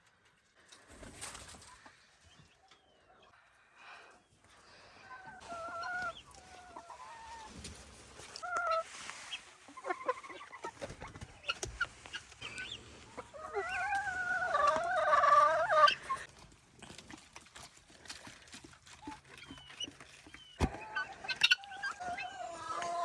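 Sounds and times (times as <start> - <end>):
chickens and guinea fowl calling: 0.8 - 23.0.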